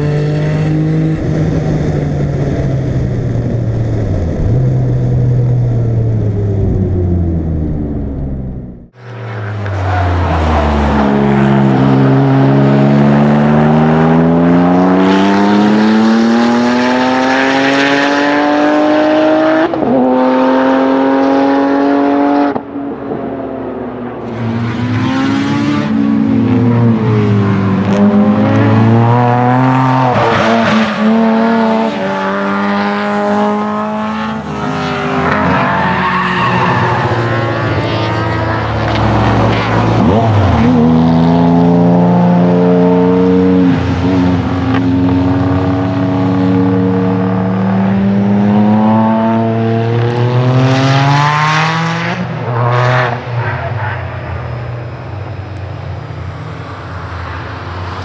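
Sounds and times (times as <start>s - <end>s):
sports car engine accelerating: 0.0s - 35.7s, 36.3s - 53.3s
several car engines revving: 8.9s - 22.7s, 24.1s - 58.0s.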